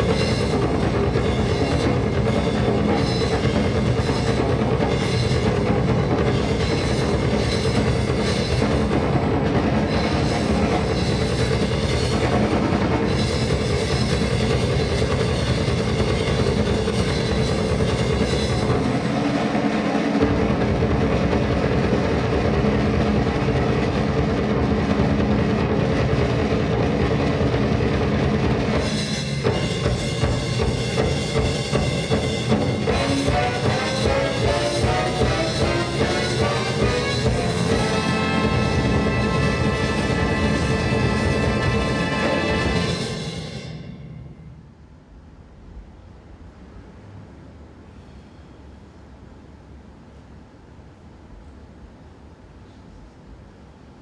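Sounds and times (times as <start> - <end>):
busy drum kit with cymbals: 0.0 - 44.0
sustained notes: 0.0 - 44.7.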